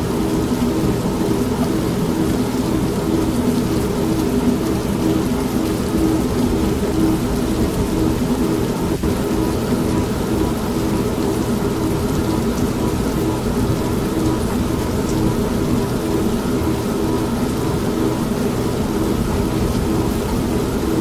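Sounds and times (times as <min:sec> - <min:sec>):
steady rain: 0:00.0 - 0:21.0
washing machine humming: 0:00.0 - 0:21.0.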